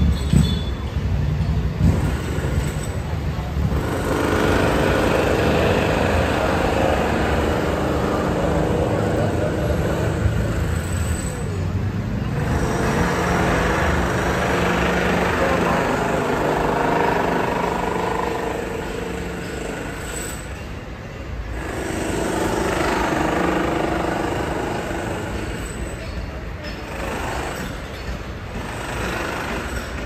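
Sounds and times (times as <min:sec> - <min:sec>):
pedestrian chatter: 0:00.0 - 0:30.0
street noise: 0:00.0 - 0:30.0
traffic rumble: 0:00.0 - 0:30.0.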